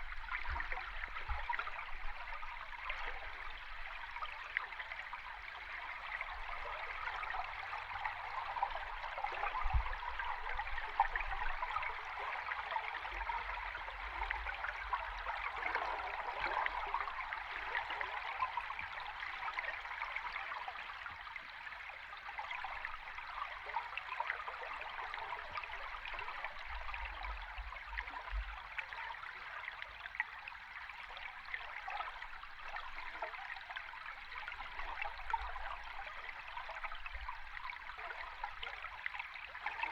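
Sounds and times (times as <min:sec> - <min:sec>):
underwater stream bubbling: 0:00.0 - 0:39.9.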